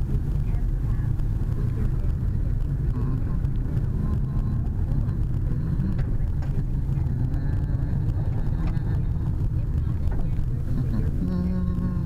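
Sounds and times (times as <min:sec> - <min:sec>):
car driving on gravel: 0:00.0 - 0:12.0.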